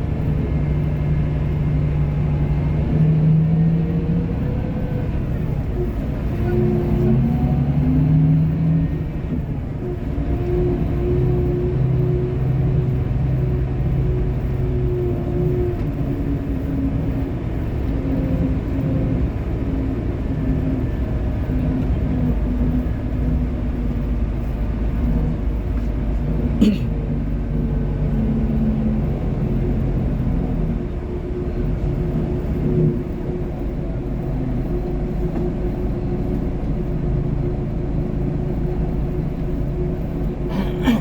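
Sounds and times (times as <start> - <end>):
bus diesel engine running: 0.0 - 41.0
low road rumble: 0.0 - 41.0.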